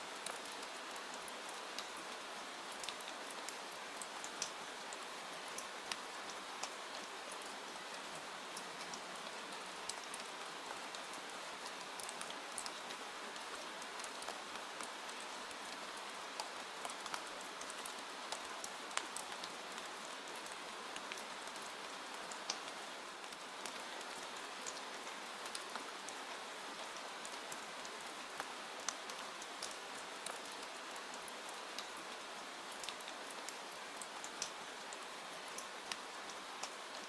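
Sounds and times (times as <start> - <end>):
rain hissing on a window: 0.0 - 37.0.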